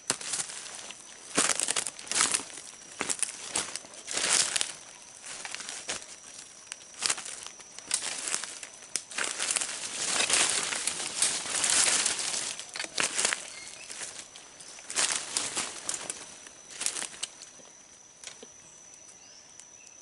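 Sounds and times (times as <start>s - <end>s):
rustling and crinkling: 0.0s - 18.9s.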